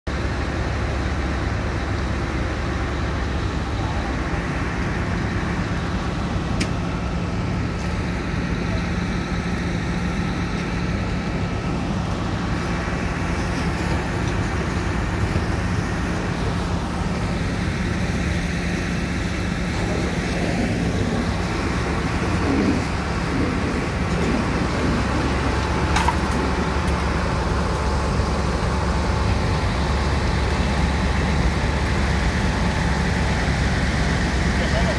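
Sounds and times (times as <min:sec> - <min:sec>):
diesel engine droning: 0:00.1 - 0:34.9.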